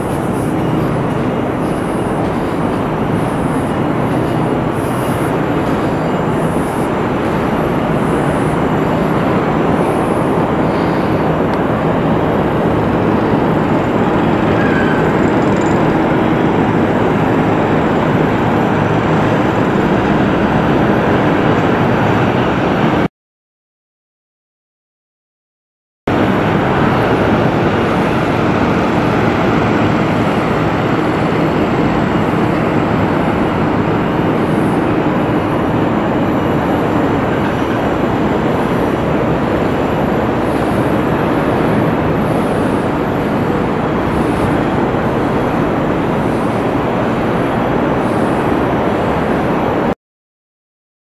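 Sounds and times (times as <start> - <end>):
loud outdoor rushing noise: 0.0 - 23.1, 26.1 - 50.0.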